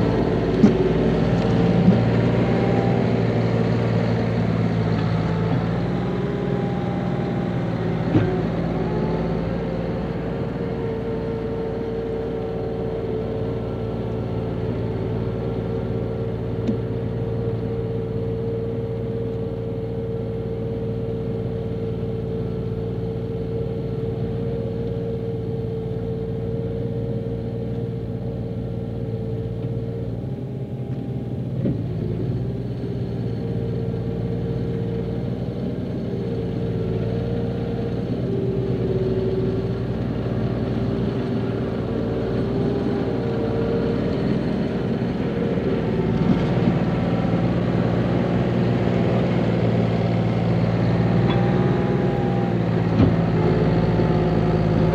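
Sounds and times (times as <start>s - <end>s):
bulldozer diesel engine: 0.0s - 54.9s.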